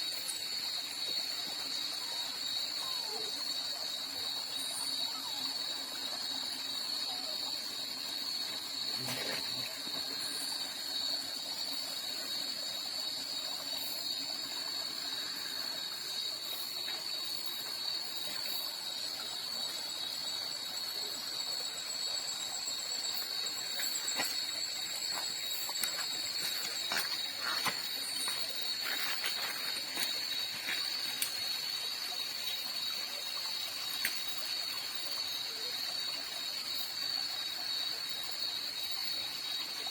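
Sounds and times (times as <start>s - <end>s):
night insects droning: 0.0s - 39.9s.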